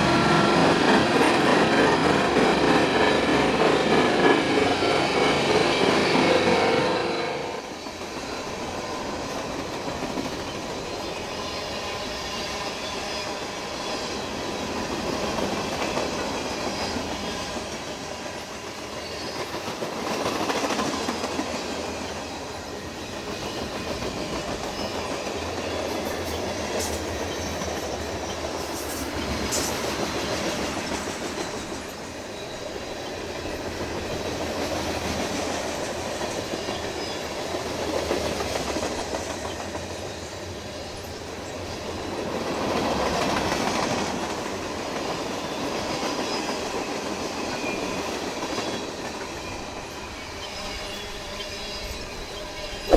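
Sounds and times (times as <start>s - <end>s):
freight train rolling past: 0.0s - 52.9s.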